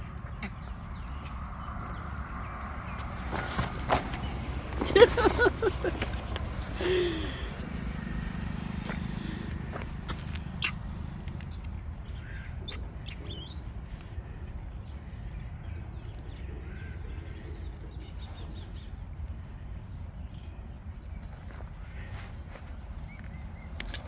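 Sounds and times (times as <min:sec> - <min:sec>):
birds chirping: 0:00.0 - 0:24.0
low outdoor rumble: 0:00.0 - 0:24.0.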